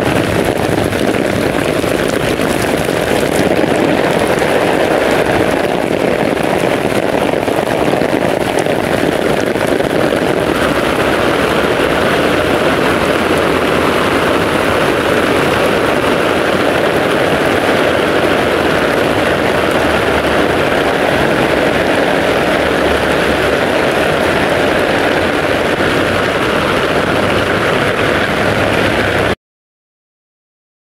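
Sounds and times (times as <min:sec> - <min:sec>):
heavy rain on pavement: 0:00.0 - 0:29.4
low rumble: 0:00.0 - 0:29.4.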